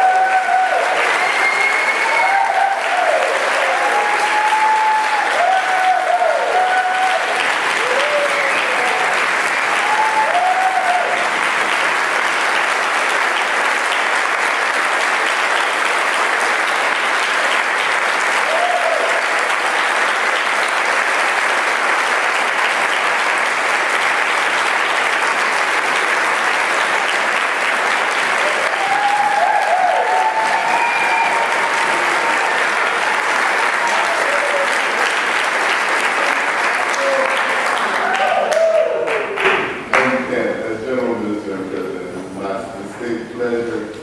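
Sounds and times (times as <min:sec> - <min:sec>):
congregation applauding: 0:00.0 - 0:41.7.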